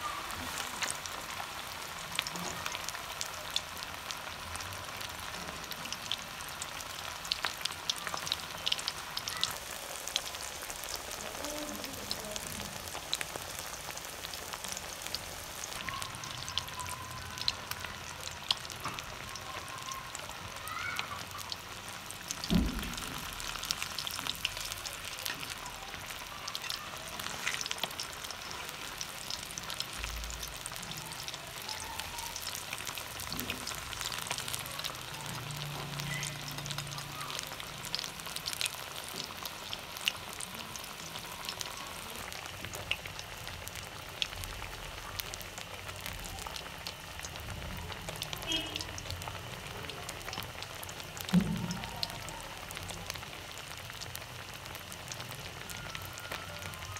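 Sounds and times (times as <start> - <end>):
fish deep-frying in oil: 0.0 - 56.9.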